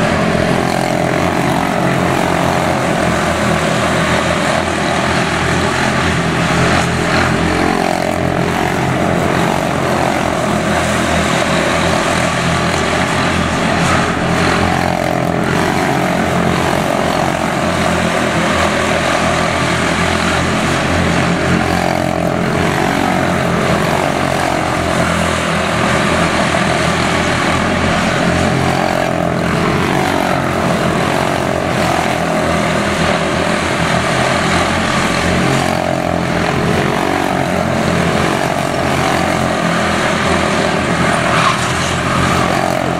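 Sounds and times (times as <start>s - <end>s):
race car engines buzzing: 0.0s - 42.9s.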